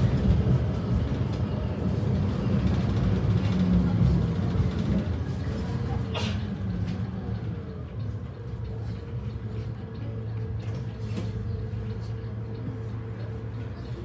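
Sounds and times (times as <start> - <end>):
bus engine low hum: 0.0 - 14.0.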